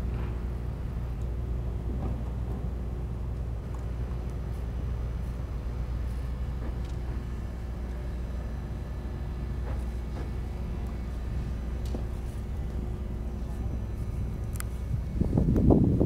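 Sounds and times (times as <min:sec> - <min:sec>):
faint mechanical hum: 0:00.0 - 0:16.0
low rumble: 0:00.0 - 0:16.0.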